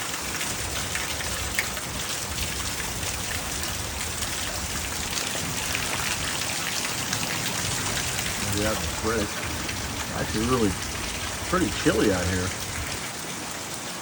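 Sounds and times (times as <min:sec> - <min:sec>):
heavy rain pouring: 0:00.0 - 0:14.0
water running off a roof: 0:00.0 - 0:14.0.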